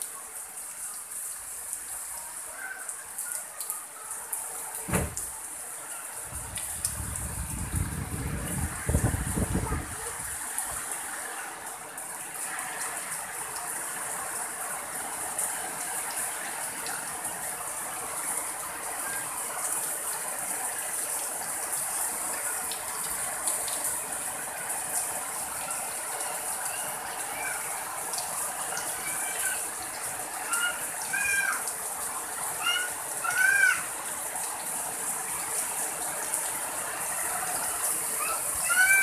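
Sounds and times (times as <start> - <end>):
heavy rain on foliage: 0.0 - 39.0.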